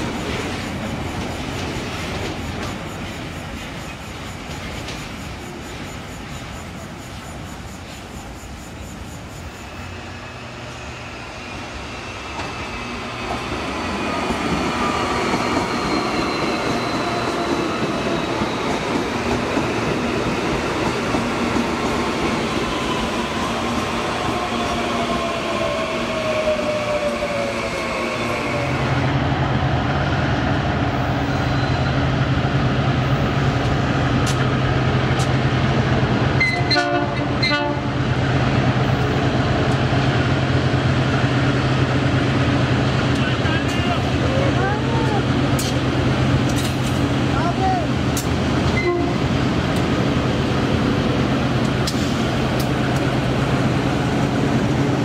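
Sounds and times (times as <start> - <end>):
freight locomotives droning: 0.0 - 55.0
train wheels rumbling on rails: 0.0 - 55.0.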